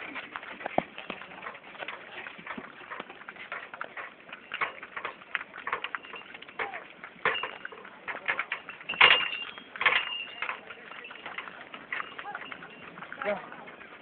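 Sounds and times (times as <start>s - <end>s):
cart knocking and rattling: 0.0s - 14.0s
hooves clopping: 0.0s - 14.0s.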